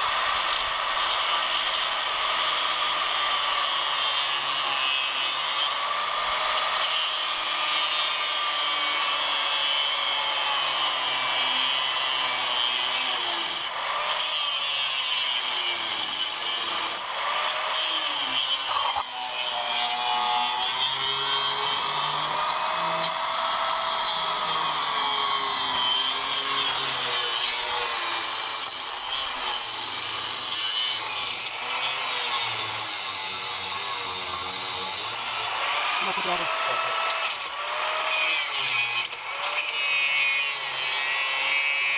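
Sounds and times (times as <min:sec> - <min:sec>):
angle grinder cutting steel: 0:00.0 - 0:41.9.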